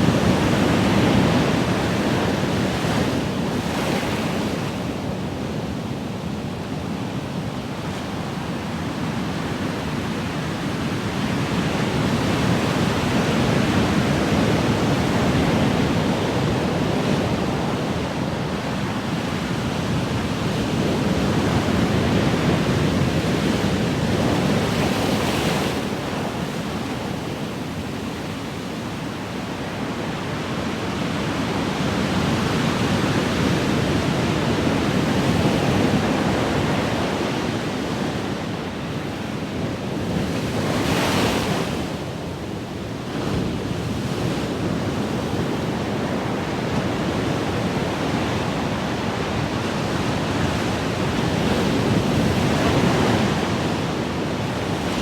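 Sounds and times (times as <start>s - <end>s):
ocean waves on shore: 8.3s - 55.0s.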